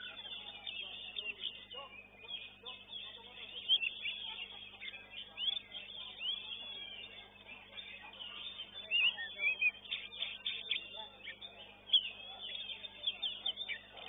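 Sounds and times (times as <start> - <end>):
bird singing whistles and chirps: 0.0 - 14.0.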